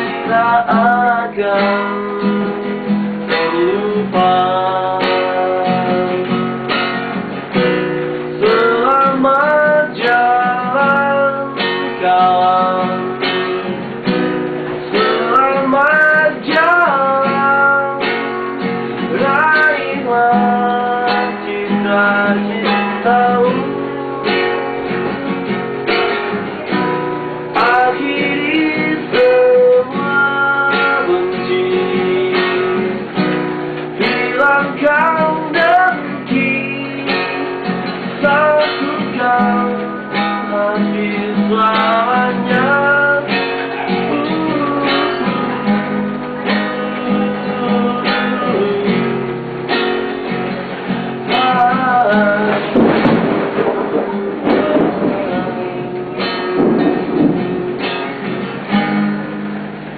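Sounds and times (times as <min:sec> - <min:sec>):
man singing slow melody: 0:00.0 - 0:06.9, 0:08.2 - 0:13.7, 0:14.8 - 0:25.6, 0:26.6 - 0:57.7
acoustic guitar strumming: 0:00.0 - 0:59.9.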